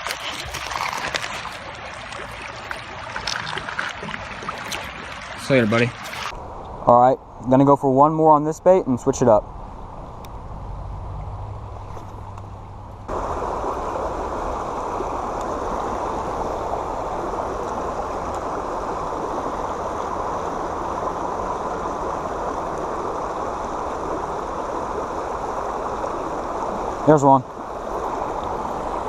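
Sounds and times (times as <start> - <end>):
creek water running: 0.0 - 6.8, 11.1 - 29.0.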